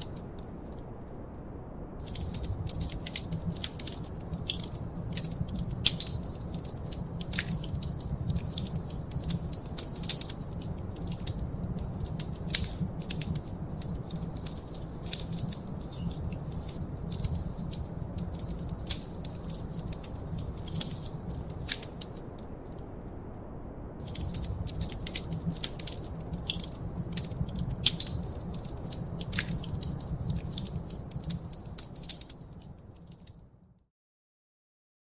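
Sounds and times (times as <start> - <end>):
wood fire crackling: 0.0 - 1.3, 2.0 - 23.0, 24.0 - 33.7.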